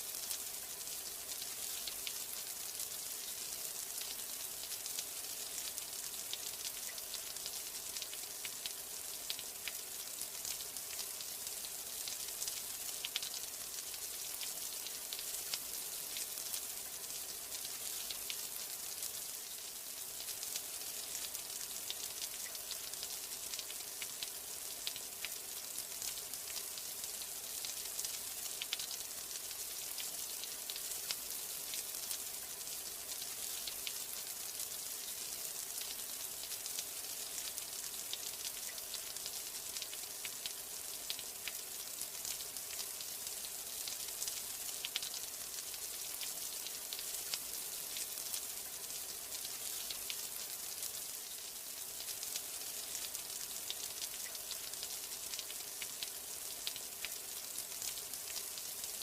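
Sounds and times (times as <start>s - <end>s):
raindrops ticking on a surface: 0.0s - 59.0s
steady rain hiss: 0.0s - 59.0s.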